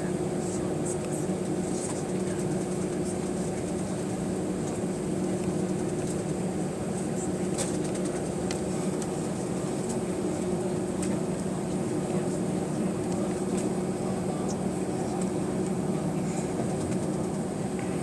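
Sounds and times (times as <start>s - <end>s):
jet engine drone in cabin: 0.0s - 18.0s.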